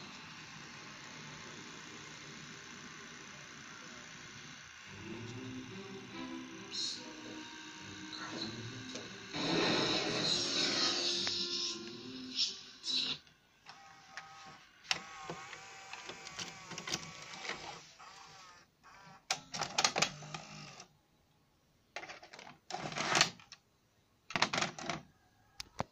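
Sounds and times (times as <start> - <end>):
tape mechanism motor whirring: 0.0 - 20.9, 22.7 - 23.5.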